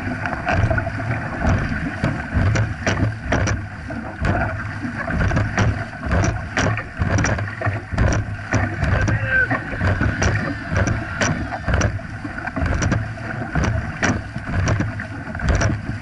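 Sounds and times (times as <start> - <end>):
paddles splashing in water: 0.0 - 16.0
water rushing along hull: 0.0 - 16.0
wind buffeting microphone: 0.0 - 16.0.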